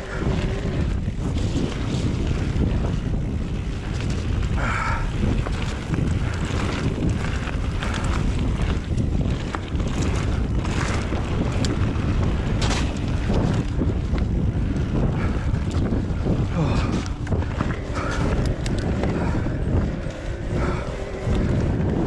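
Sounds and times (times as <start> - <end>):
bike clicks and rattles: 0.0 - 22.0
bike tyres rumbling on trail: 0.0 - 22.0
wind buffeting microphone: 0.0 - 22.0.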